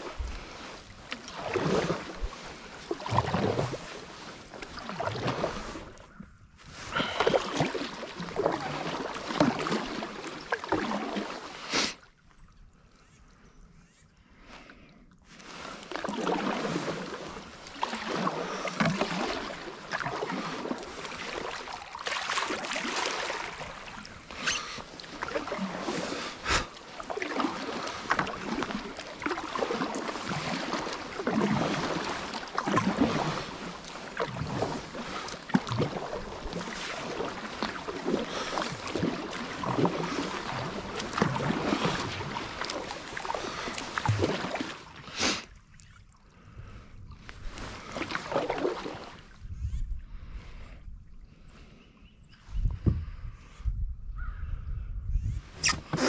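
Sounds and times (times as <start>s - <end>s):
kayak paddle splashing: 0.0s - 12.4s, 14.4s - 49.6s, 55.6s - 56.0s.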